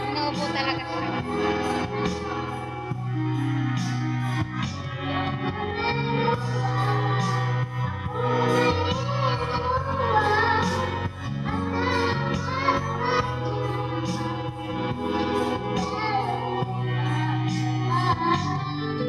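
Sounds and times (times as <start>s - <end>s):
music backing track: 0.0s - 19.0s
person singing: 0.0s - 19.0s.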